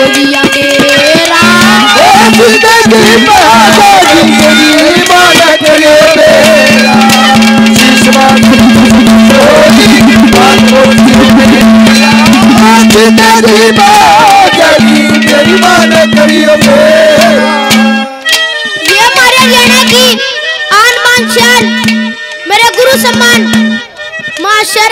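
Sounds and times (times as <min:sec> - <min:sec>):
hand drums: 0:00.0 - 0:24.9
wind instrument melody: 0:00.0 - 0:24.9.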